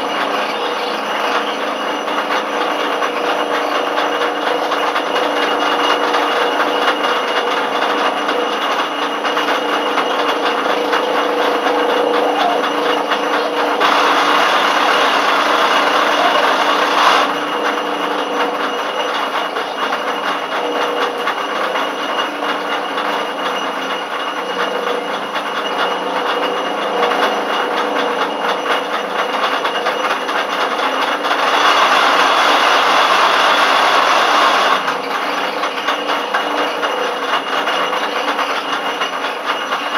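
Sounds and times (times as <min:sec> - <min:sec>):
lathe cutting thread: 0:00.0 - 0:39.9
lathe whine: 0:00.0 - 0:39.9.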